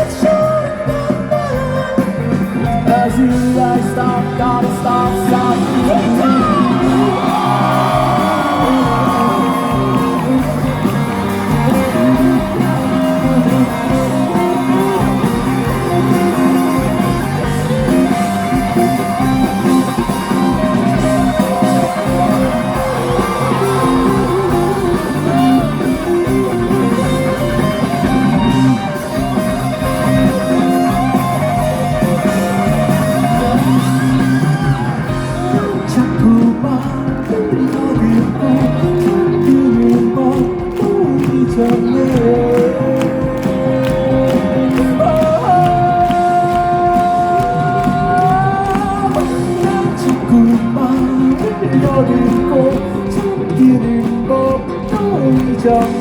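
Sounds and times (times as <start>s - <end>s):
electric guitars: 0.0s - 56.0s
live rock band playing: 0.0s - 56.0s.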